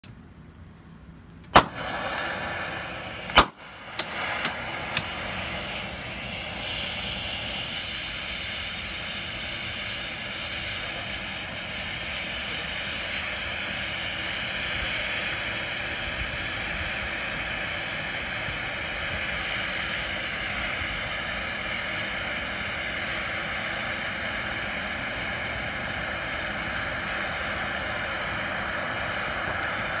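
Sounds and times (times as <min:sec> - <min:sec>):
flare burning with a hiss: 0:01.5 - 0:30.0
flare igniting with a crack: 0:01.5 - 0:30.0.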